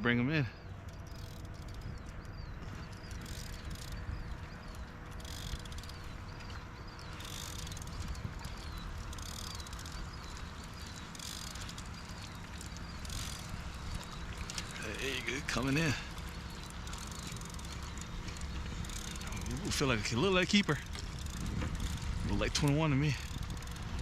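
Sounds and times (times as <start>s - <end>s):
fishing reel cranking: 0.7s - 24.0s
small high squeaks: 0.7s - 24.0s.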